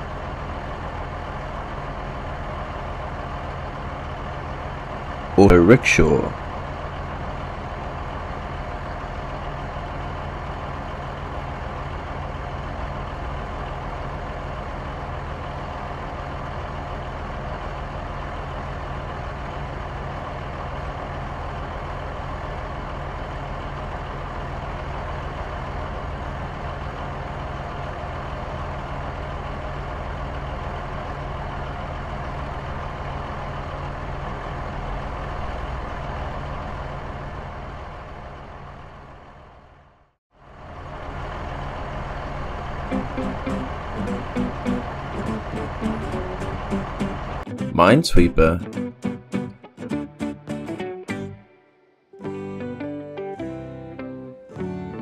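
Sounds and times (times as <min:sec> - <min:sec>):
vehicle engines humming: 0:00.0 - 0:49.4.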